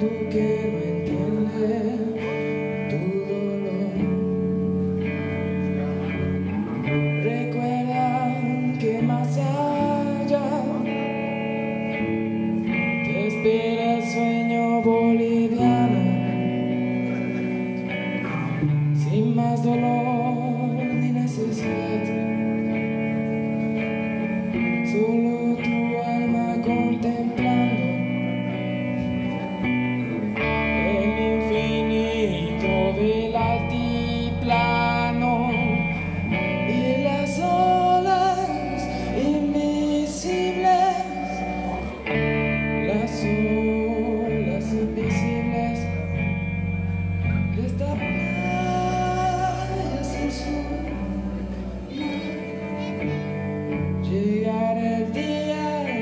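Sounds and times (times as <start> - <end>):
bass line: 0.0 - 56.0
electric guitars: 0.0 - 56.0
person singing: 0.0 - 56.0.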